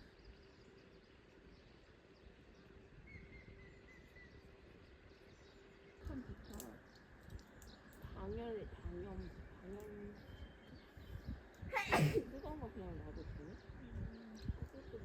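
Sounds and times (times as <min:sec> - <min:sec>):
faint chirp: 0:00.0 - 0:15.0.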